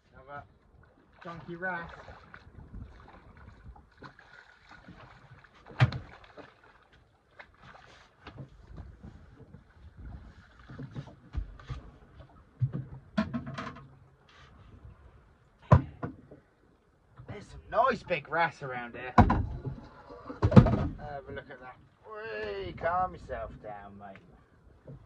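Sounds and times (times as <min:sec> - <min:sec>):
knocks and rattles on a boat: 0:00.0 - 0:14.6, 0:15.6 - 0:16.5, 0:19.0 - 0:21.4, 0:22.4 - 0:25.0.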